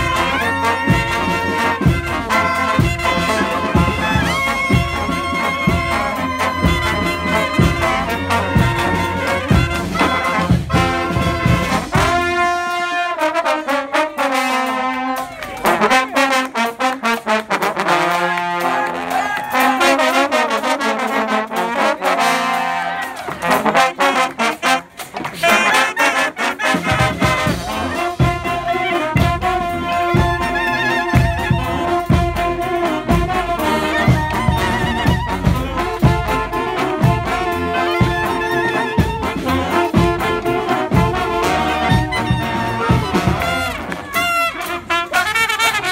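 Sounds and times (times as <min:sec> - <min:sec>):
brass street band playing: 0:00.0 - 0:45.9
horns playing swooping phrases: 0:00.0 - 0:45.9.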